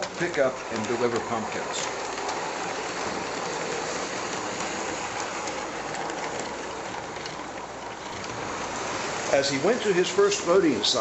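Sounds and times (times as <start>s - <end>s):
electric motor: 0.0s - 11.0s
model train wheels on rail: 0.0s - 11.0s.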